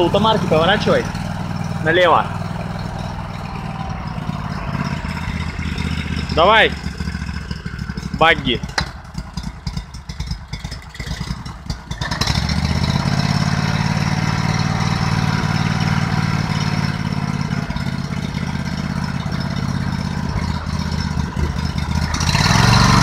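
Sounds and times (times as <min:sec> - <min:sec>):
small engine idling and revving: 0:00.0 - 0:23.0.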